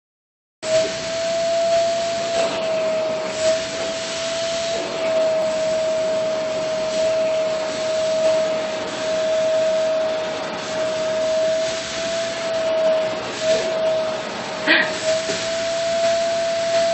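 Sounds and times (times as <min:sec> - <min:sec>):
vacuum cleaner whining: 0:00.6 - 0:16.9.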